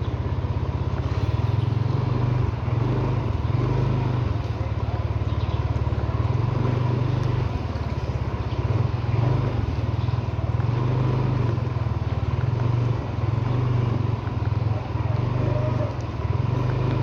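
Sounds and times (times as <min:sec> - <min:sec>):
vehicle engine pulsing: 0:00.0 - 0:17.0.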